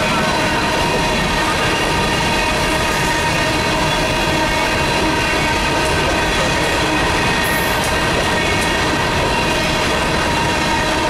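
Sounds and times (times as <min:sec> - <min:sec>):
train wheels on rail: 0:00.0 - 0:11.0.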